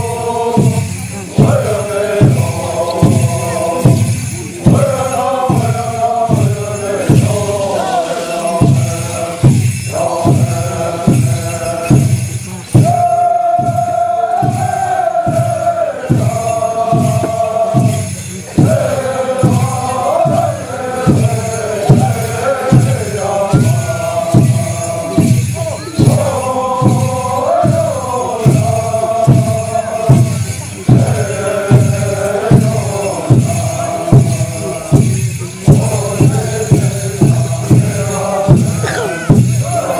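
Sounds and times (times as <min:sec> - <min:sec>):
steady drum beat: 0:00.0 - 0:39.9
voices chanting in unison: 0:00.0 - 0:39.9.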